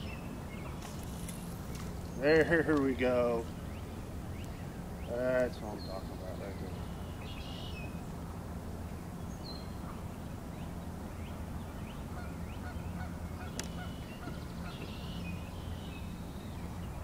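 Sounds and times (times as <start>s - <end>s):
steady low hum: 0.0s - 17.0s
wild birds calling: 0.0s - 17.0s.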